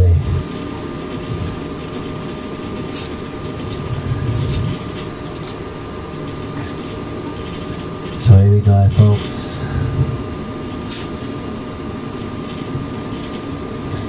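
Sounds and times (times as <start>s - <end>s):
low rumbling room hum: 0.0s - 14.0s.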